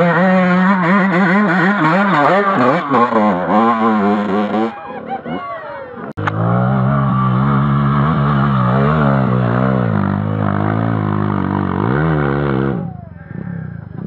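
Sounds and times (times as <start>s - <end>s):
off-road motorcycle engine: 0.0s - 14.0s.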